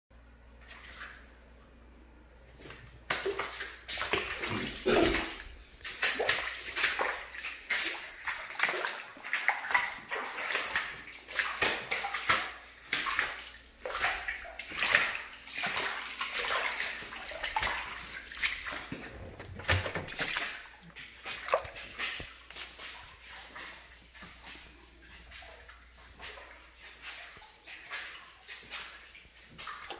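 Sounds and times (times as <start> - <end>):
water sloshing and splashing: 0.4 - 1.8, 2.4 - 29.9.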